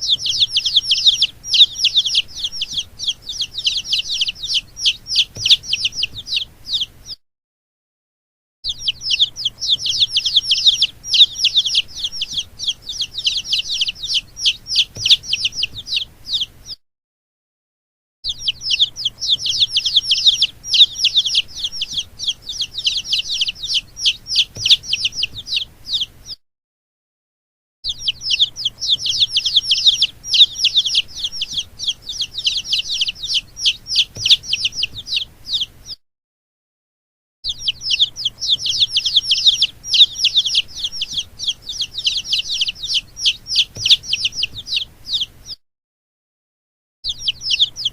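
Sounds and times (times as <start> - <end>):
baby chicks peeping: 0.0 - 7.2, 8.7 - 16.8, 18.3 - 26.4, 27.8 - 36.0, 37.4 - 45.6, 47.0 - 47.9.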